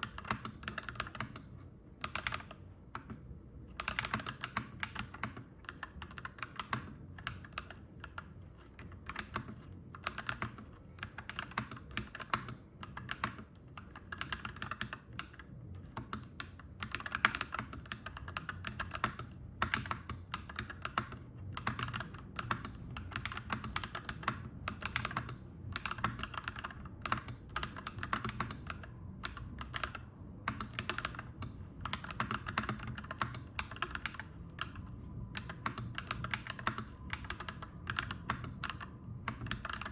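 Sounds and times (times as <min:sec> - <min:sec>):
low steady hum: 0:00.0 - 0:39.9
mechanical keyboard typing: 0:00.0 - 0:39.9.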